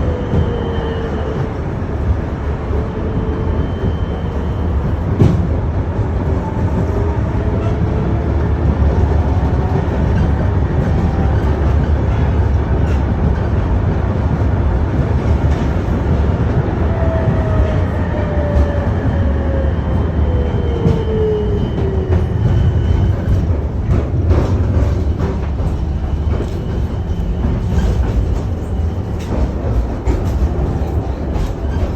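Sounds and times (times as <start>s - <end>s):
tram wheels rumbling: 0.0s - 31.9s.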